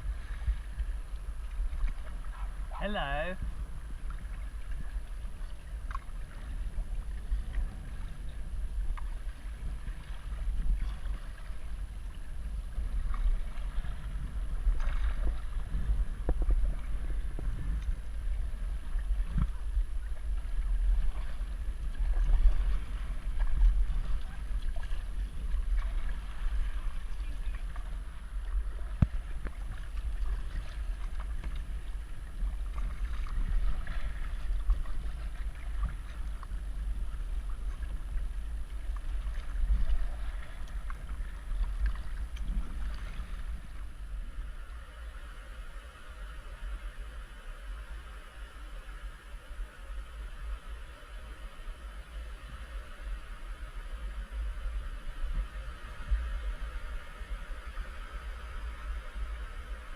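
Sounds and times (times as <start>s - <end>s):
paddle splashes: 0.0s - 59.9s
water moving around hull: 0.0s - 59.9s
wind rumble on microphone: 0.0s - 59.9s.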